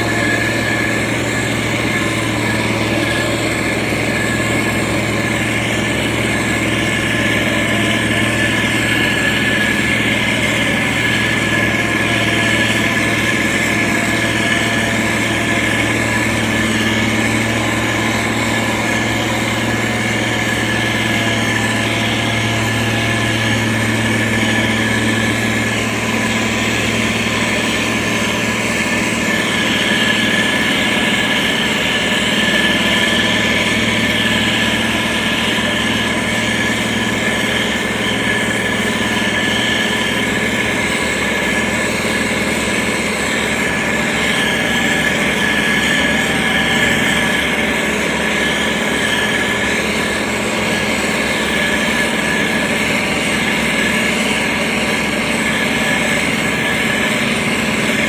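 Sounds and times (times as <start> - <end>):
diesel engine running: 0.0 - 58.0
high whine: 0.0 - 58.0.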